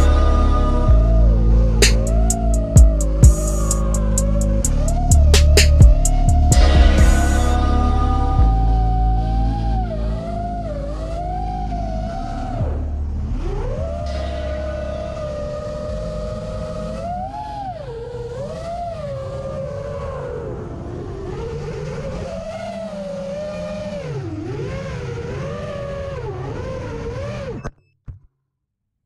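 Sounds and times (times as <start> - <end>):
quadcopter motors whining: 0.0 - 27.7.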